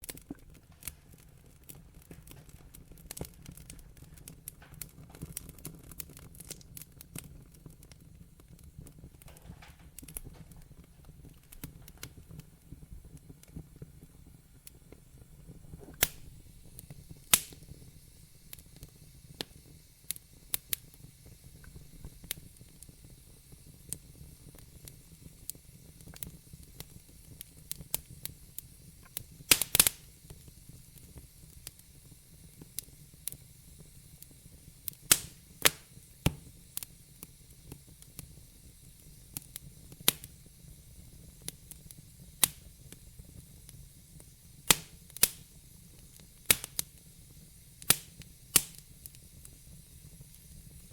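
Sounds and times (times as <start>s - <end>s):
fire hiss: 0.0s - 50.9s
wood fire crackling: 0.0s - 50.9s.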